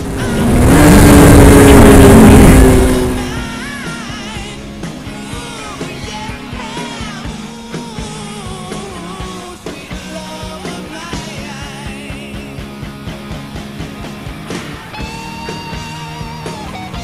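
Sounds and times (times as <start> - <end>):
rock song with singing: 0.0 - 17.0
steady drum beat: 0.6 - 17.0.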